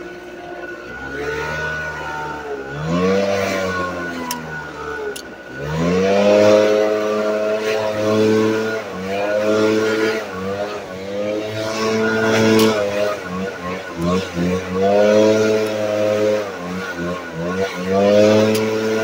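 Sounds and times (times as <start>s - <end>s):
leaf blower engine revving: 0.0s - 19.0s.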